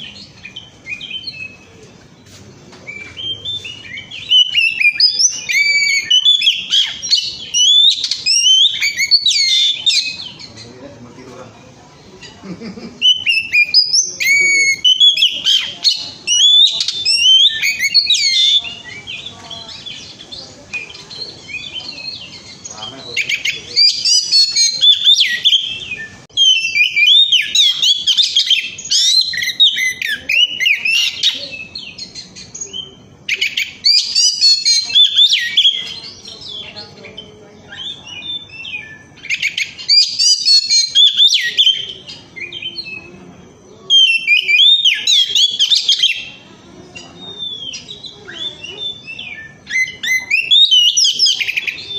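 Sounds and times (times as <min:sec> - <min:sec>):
bird singing whistled song: 0:00.0 - 0:02.0, 0:02.9 - 0:10.7, 0:13.0 - 0:51.9.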